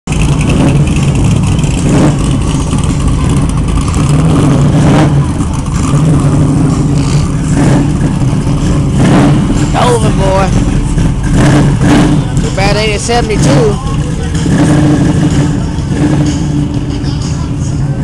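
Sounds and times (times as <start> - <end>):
deep car engines rumbling: 0.0 - 18.0.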